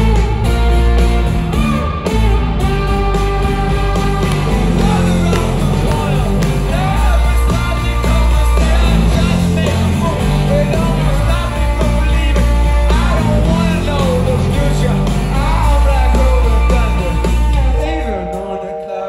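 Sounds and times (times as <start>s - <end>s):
drums: 0.0s - 18.7s
bass: 0.0s - 18.8s
electric guitars: 0.0s - 19.0s
lead singer: 2.7s - 19.0s.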